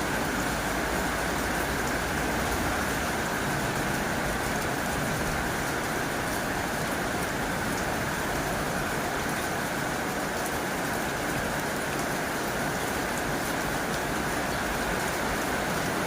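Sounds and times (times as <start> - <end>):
heavy rain on a tin roof: 0.0 - 16.0.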